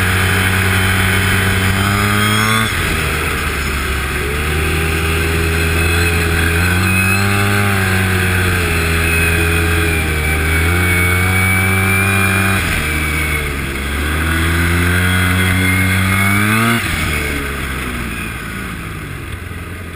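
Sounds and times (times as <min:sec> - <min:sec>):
snowmobile engine revving: 0:00.0 - 0:19.2.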